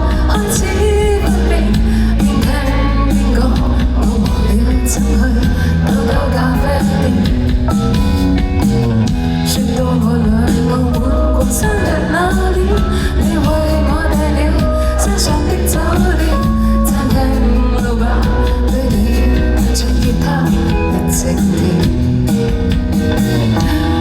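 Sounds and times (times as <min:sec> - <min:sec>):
person singing: 0:00.0 - 0:08.6, 0:09.4 - 0:22.5, 0:23.5 - 0:24.0
live band playing pop: 0:00.0 - 0:24.0.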